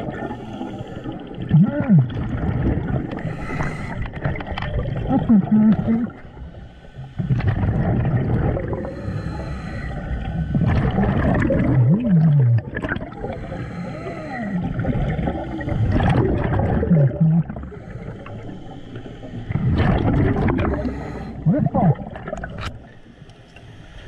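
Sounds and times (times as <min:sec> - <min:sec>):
underwater bubbles gurgling: 0:00.0 - 0:24.0.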